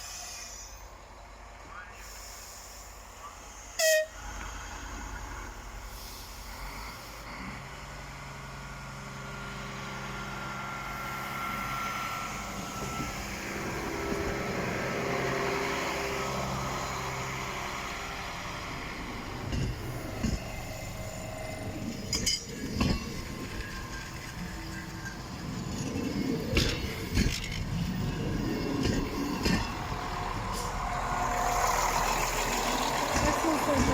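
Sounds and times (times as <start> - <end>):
train passing: 0.0 - 33.9.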